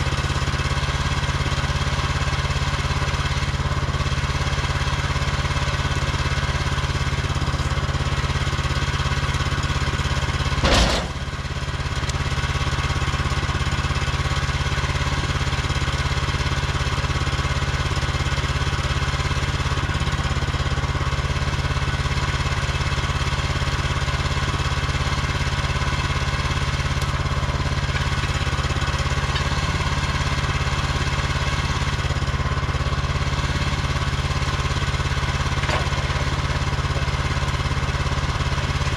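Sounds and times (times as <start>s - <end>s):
gas engine idling: 0.0s - 38.9s.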